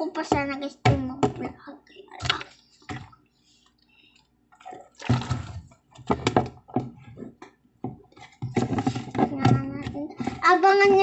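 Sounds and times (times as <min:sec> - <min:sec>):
slime squelching: 0:01.9 - 0:11.0.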